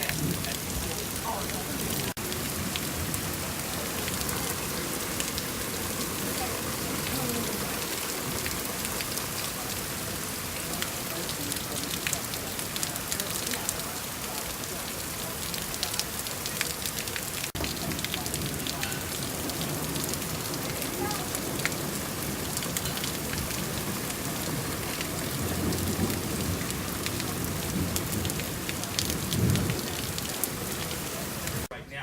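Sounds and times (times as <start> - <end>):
heavy rain pelting down: 0.0 - 31.8.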